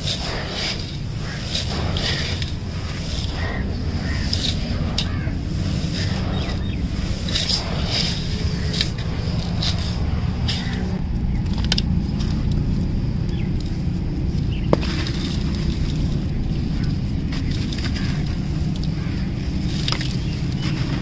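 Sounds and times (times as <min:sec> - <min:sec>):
dry lumps crumbled by hand: 0:00.0 - 0:21.0
grit crackling: 0:00.0 - 0:21.0
low rumble: 0:00.0 - 0:21.0.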